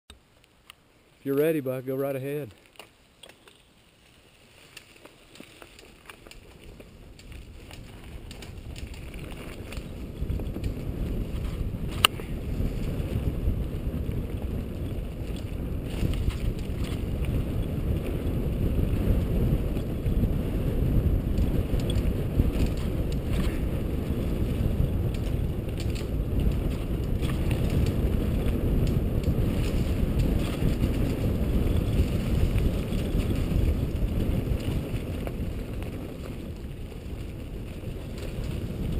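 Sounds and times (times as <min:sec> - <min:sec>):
bike tyres rumbling on dirt trail: 0:01.4 - 0:38.9
wind buffeting microphone: 0:05.0 - 0:38.9.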